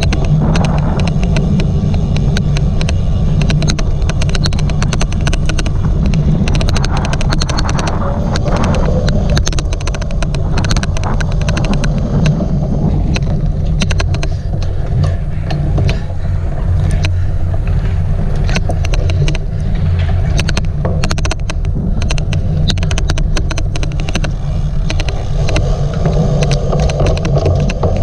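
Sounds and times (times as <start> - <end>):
bike riding rumble: 0.0 - 28.0
sharp irregular clicks: 0.0 - 28.0
wind noise: 0.0 - 28.0.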